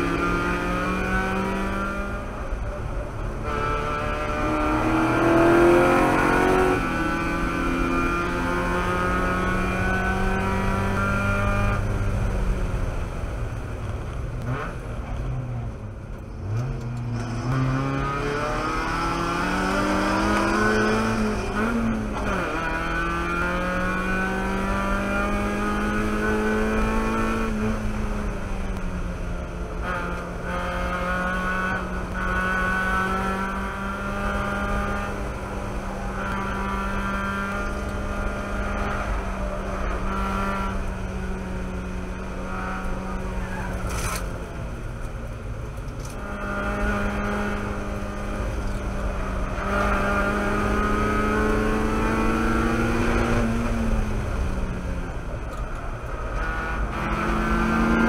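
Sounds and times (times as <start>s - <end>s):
race car engine revving: 0.0s - 13.7s, 16.3s - 58.0s.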